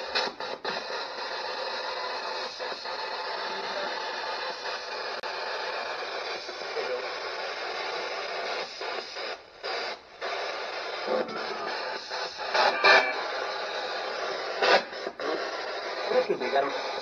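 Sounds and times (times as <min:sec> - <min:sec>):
radio static rush: 0:00.0 - 0:17.0.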